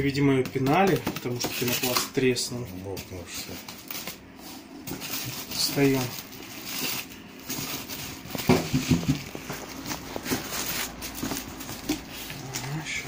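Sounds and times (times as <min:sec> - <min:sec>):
plastic bag crinkling: 0:00.6 - 0:13.0.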